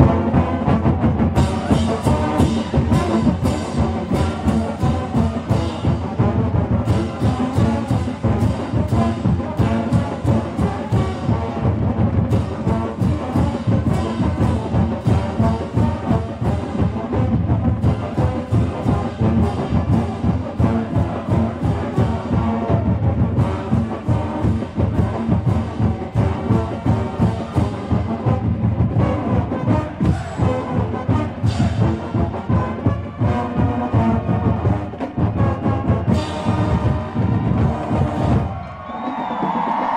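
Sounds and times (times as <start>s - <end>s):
brass instruments: 0.0s - 39.9s
steady drum beat: 0.0s - 39.9s.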